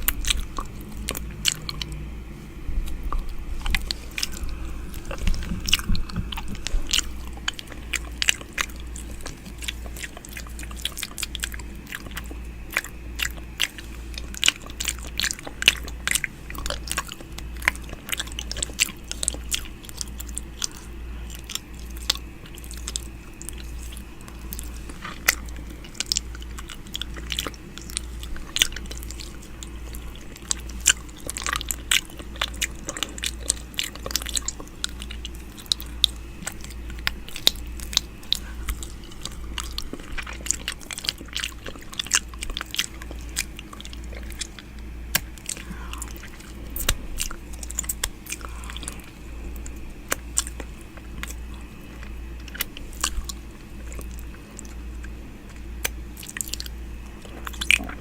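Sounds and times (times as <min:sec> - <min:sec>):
low hum: 0:00.0 - 0:58.0
mouth clicks and smacks: 0:02.8 - 0:58.0.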